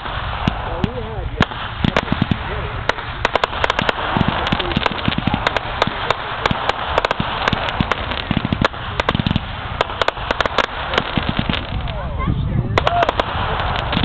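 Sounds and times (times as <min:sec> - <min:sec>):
fireworks cracking and popping: 0:00.0 - 0:14.0
fireworks crackling hiss: 0:00.0 - 0:14.0.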